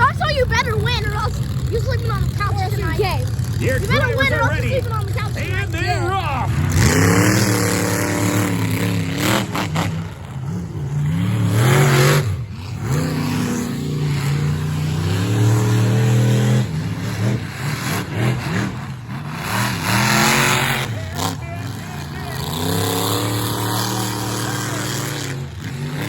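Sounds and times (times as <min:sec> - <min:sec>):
monster truck engines revving: 0:00.0 - 0:26.0.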